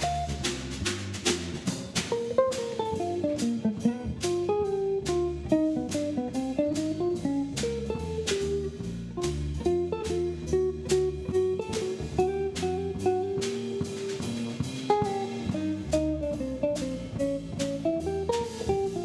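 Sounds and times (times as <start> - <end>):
bass guitar notes: 0.0 - 19.0
drum kit cymbals: 0.0 - 19.0
electric guitar melody: 2.0 - 19.0.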